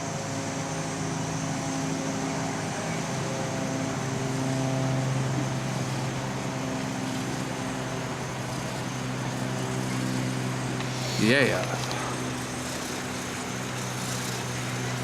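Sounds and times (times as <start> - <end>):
chairlift mechanical hum: 0.0 - 15.0.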